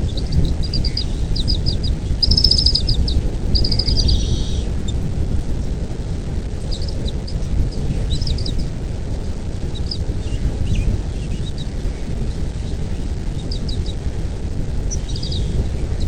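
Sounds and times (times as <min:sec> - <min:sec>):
birds chirping: 0:00.0 - 0:14.2, 0:14.8 - 0:16.0
steady low rumble: 0:00.0 - 0:16.0.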